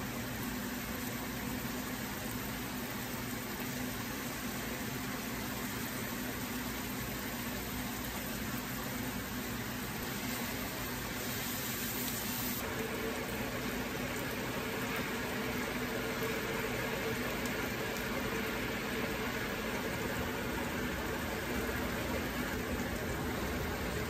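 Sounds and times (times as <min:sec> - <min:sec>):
vegetables sizzling in a pan: 0:00.0 - 0:22.4.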